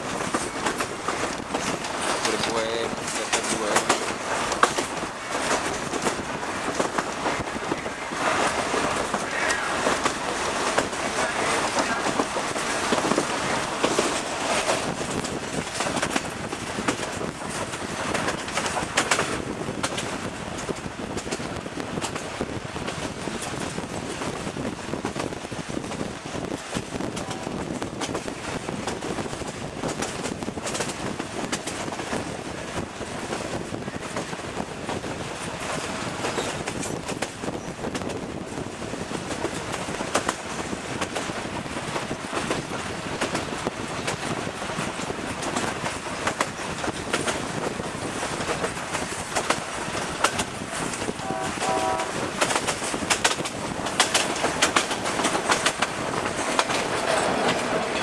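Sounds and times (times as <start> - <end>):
rail joint clicks: 0.0 - 58.0
train wheels rumbling on rails: 0.0 - 58.0.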